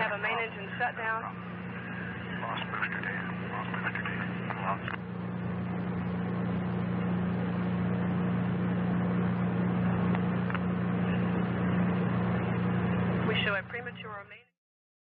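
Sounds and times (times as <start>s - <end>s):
low electrical hum: 0.0s - 14.5s.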